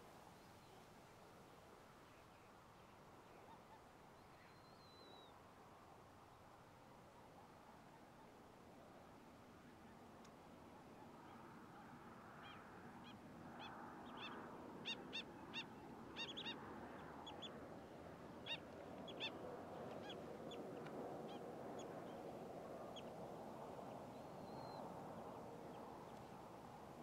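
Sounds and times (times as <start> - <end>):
faint steady hiss: 0.0 - 27.0.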